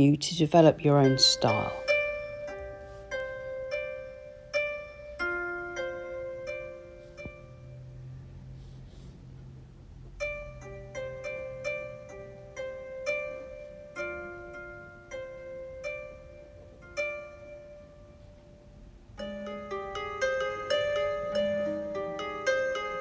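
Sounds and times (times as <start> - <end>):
harp-like plucked melody: 0.8 - 8.2, 10.0 - 23.0.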